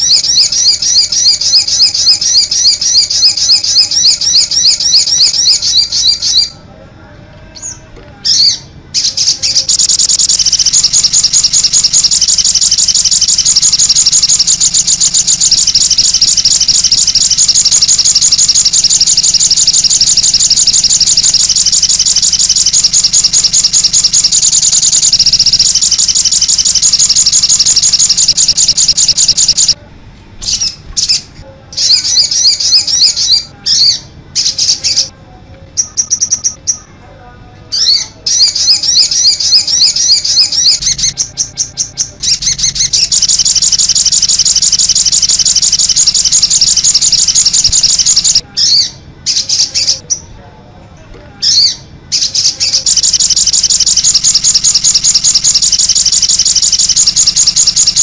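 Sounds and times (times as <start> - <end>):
bird chirping rapidly: 0.0 - 6.6, 7.6 - 29.8, 30.4 - 35.1, 35.8 - 36.9, 37.8 - 50.3, 51.4 - 58.0.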